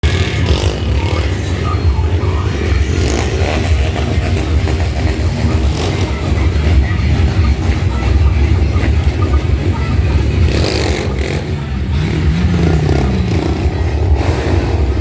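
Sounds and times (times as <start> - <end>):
people talking: 0.0 - 15.0
vehicle engine rumbling and revving: 0.0 - 15.0.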